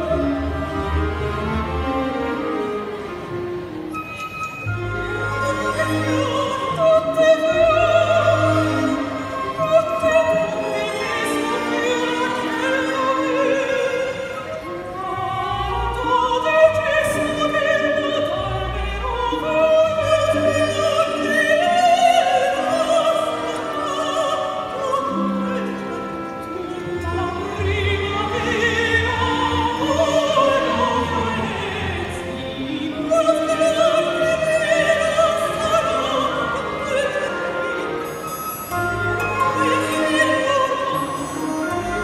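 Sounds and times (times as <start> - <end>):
women singing opera: 0.0 - 4.0, 4.8 - 42.0
orchestra bowed strings: 0.0 - 42.0.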